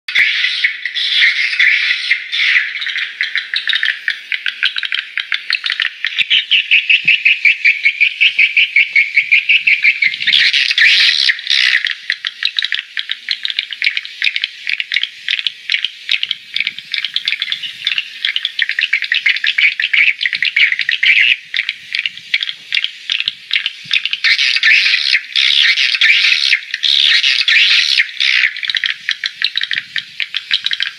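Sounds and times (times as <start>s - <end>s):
swiftlets twittering: 0.1s - 30.9s.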